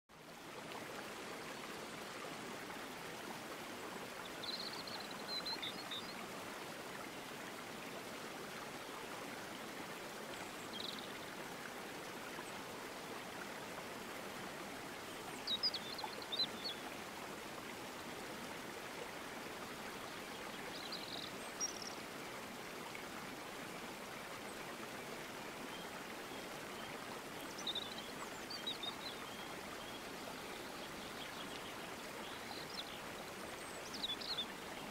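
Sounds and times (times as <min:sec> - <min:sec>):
flowing water: 0:00.1 - 0:34.9.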